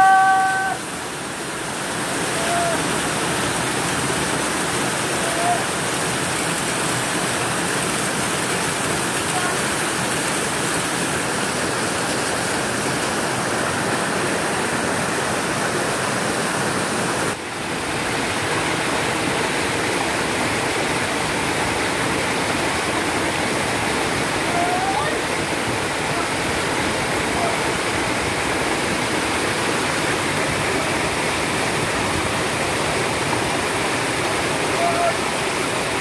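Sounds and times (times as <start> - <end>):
waterfall rushing over boulders: 0.0 - 36.0.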